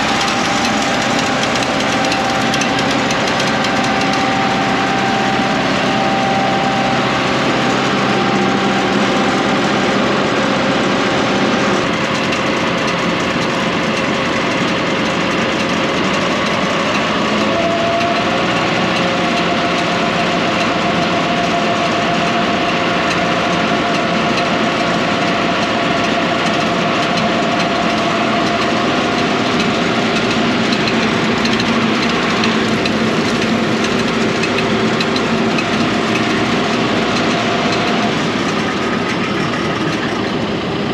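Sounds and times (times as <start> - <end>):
engine whine: 0.0 - 40.9
tractor engine running: 0.0 - 40.9.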